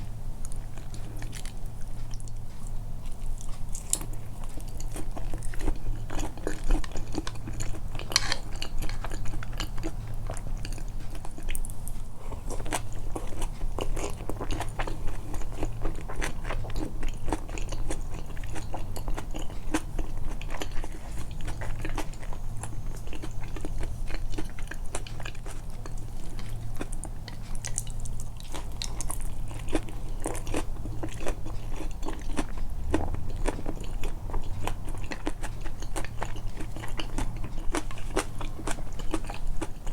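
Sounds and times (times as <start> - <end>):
steady low hum: 0.0 - 39.9
person chewing food: 0.4 - 39.9.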